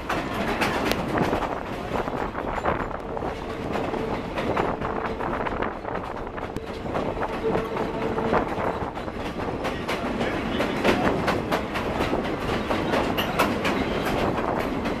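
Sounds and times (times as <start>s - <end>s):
train wheels clacking: 0.0s - 15.0s
train wheels rumbling on rails: 0.0s - 15.0s.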